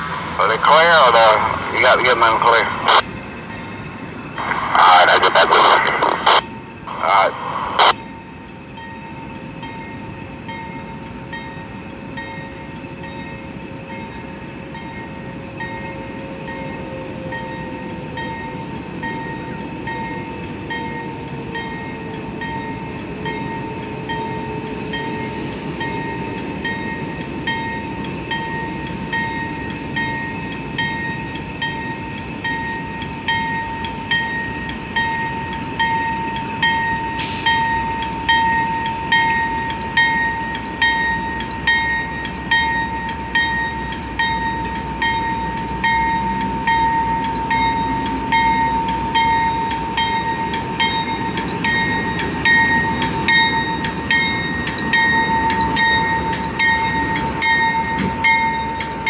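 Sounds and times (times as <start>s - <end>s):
diesel locomotive engine rumble: 0.0s - 59.0s
crossing signal bell ringing: 7.8s - 59.0s.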